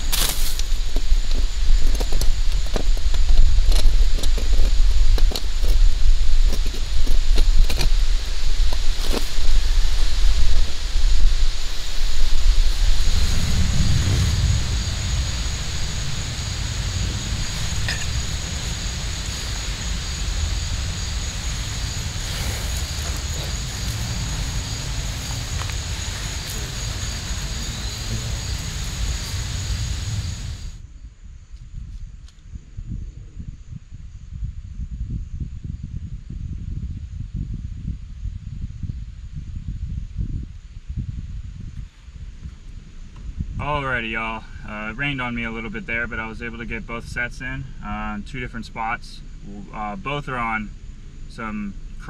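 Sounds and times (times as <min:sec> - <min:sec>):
constant hiss: 0:00.0 - 0:52.0
wind rumble on microphone: 0:00.0 - 0:52.0.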